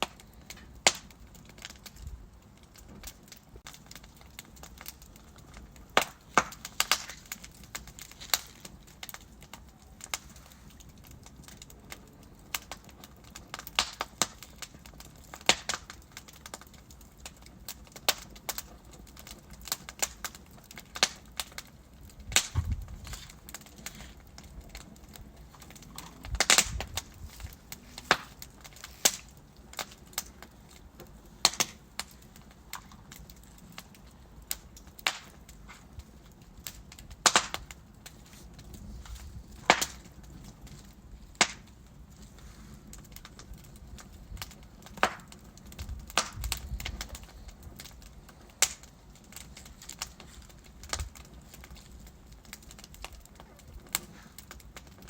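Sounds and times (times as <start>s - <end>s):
logs crackling and popping: 0.0s - 55.0s
low fire hiss: 0.0s - 55.0s.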